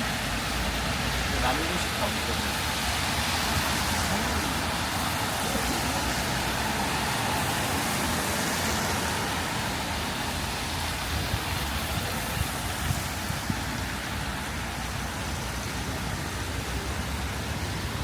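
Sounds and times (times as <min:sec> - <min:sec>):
rain falling on pavement: 0:00.0 - 0:18.0
road traffic: 0:00.0 - 0:18.0.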